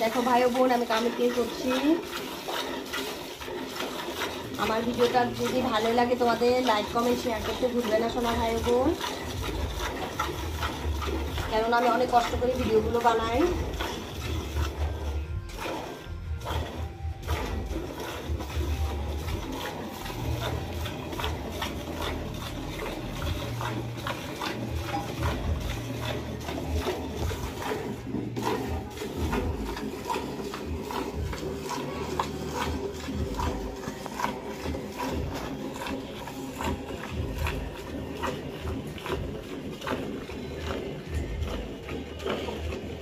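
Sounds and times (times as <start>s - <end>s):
milk squirting into steel pail: 0.0s - 43.0s.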